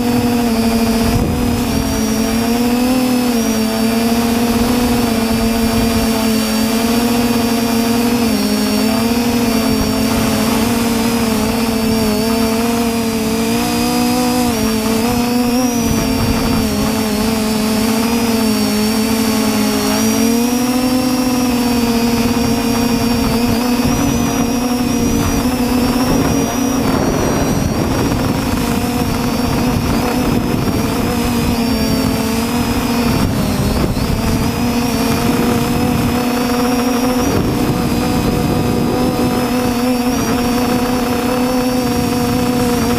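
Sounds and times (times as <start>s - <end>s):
drone propellers buzzing: 0.0s - 42.9s.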